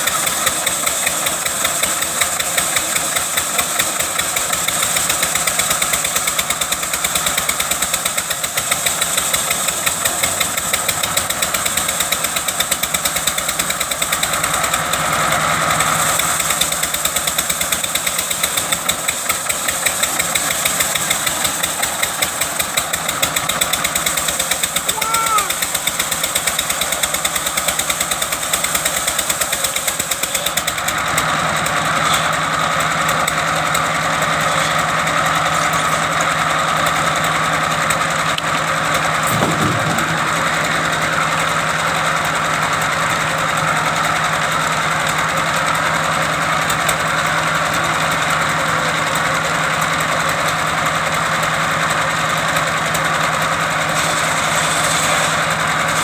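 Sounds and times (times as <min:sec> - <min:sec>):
wood-cutting machine engine running: 0:00.0 - 0:56.0.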